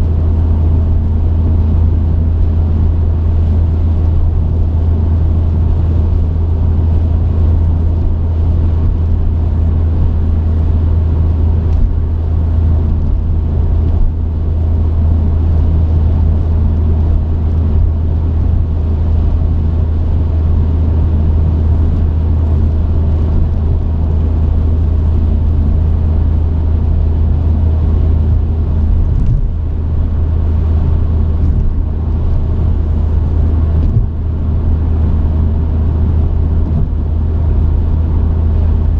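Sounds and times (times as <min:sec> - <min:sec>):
truck engine rumble: 0:00.0 - 0:38.9.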